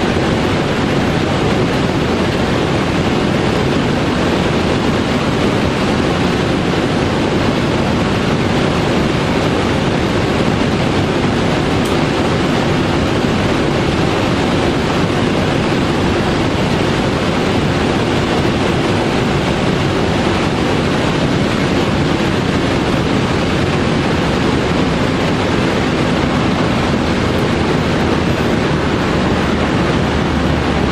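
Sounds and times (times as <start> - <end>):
car engine running: 0.0 - 30.9
wind and road noise: 0.0 - 30.9.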